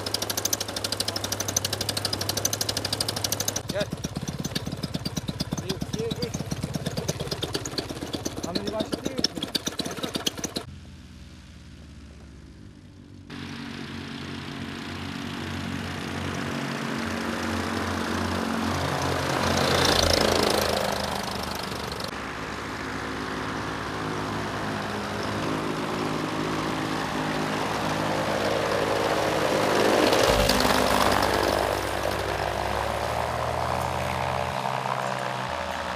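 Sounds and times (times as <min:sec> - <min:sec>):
paramotor engine and propeller: 0:00.0 - 0:35.9.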